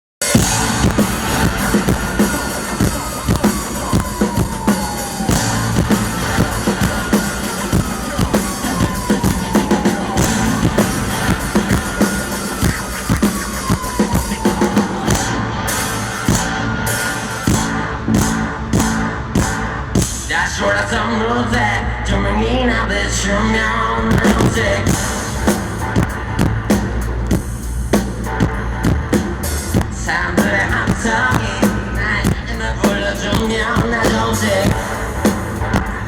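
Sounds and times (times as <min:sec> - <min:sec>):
rock band instrumental: 0:00.2 - 0:20.3, 0:24.2 - 0:36.0
drum and cymbal hits: 0:00.2 - 0:20.4, 0:24.1 - 0:36.0.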